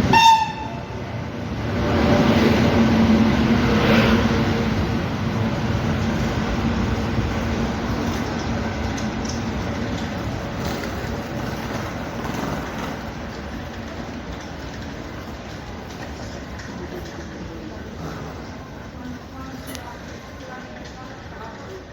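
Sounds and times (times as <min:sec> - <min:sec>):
train rumbling past: 0:00.0 - 0:21.9.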